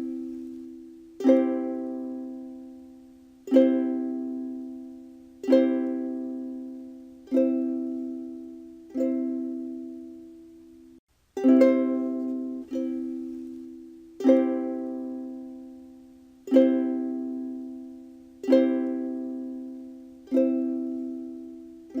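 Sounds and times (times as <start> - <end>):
ukulele strumming a chord: 0.0 - 10.4, 11.4 - 22.0.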